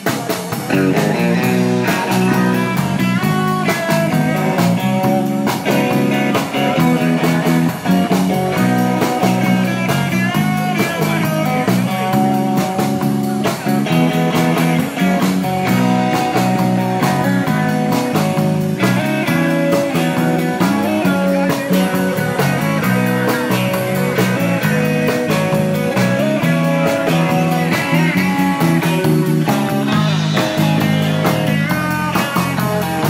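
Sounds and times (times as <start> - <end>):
bass guitar: 0.0 - 33.0
drum kit: 0.0 - 33.0
electric guitar lead lines: 0.0 - 33.0.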